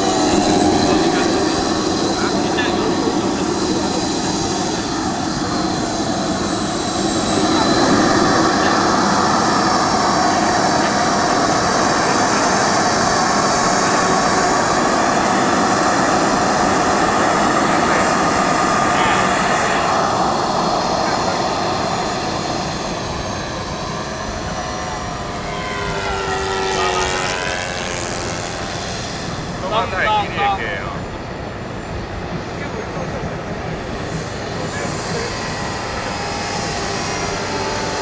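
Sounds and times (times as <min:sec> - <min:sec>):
model jet turbine whine: 0:00.0 - 0:38.0.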